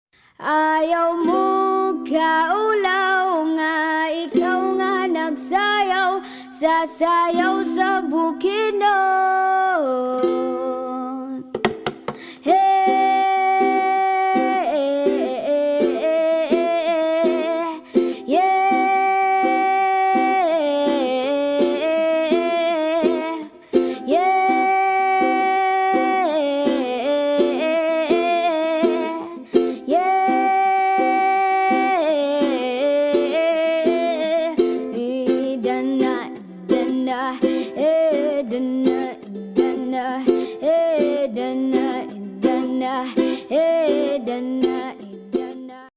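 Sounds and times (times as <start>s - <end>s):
plucked-string accompaniment: 1.1s - 45.9s.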